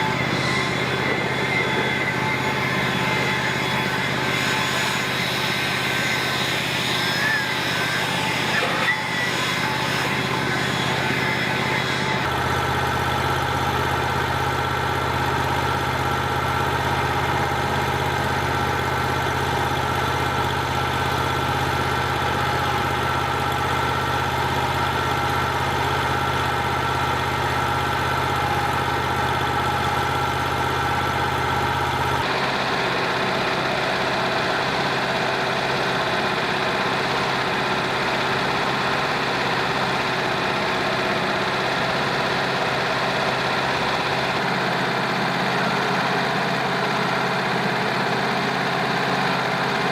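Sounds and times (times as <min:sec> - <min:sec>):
engine idling: 0:00.0 - 0:06.8, 0:07.5 - 0:49.9
engine whine: 0:00.0 - 0:49.9.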